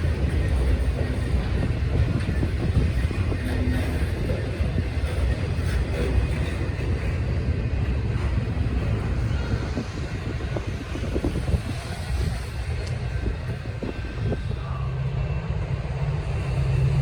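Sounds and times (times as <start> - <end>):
train rolling past: 0.0 - 17.0
wind noise on microphone: 0.0 - 17.0.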